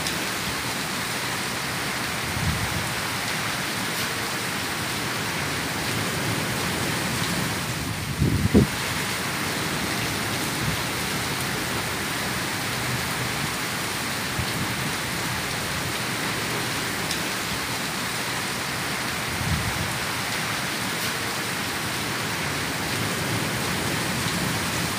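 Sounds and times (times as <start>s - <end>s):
heavy rain on wet pavement: 0.0s - 24.9s.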